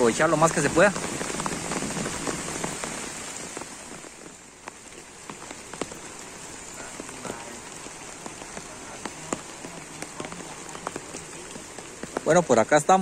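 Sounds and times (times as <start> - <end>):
heavy rain on a river: 0.0 - 13.0
raindrops ticking: 0.0 - 13.0.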